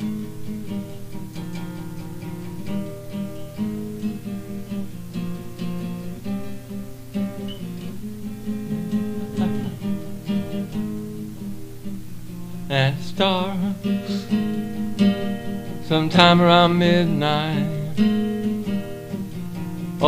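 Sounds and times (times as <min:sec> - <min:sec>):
acoustic guitar playing chords: 0:00.0 - 0:20.0.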